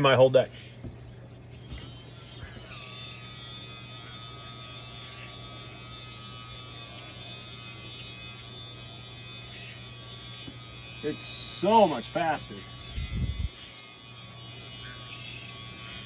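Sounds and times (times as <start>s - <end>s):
electric sprayer pump whine: 0.8s - 16.0s.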